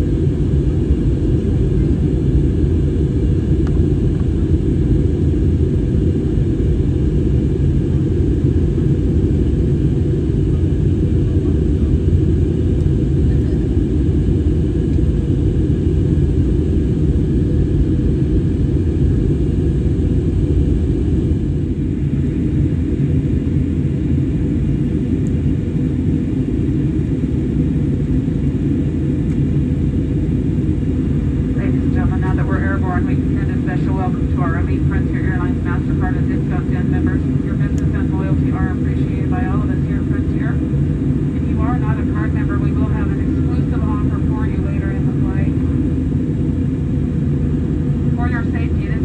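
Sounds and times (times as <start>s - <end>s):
airplane cabin rumble: 0.0s - 49.0s.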